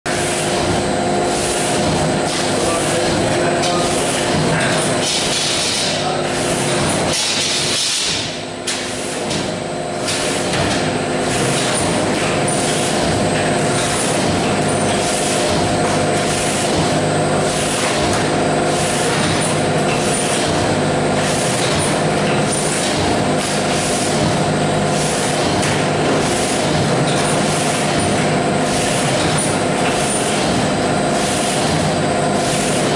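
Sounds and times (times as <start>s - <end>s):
machinery humming: 0.1s - 32.9s.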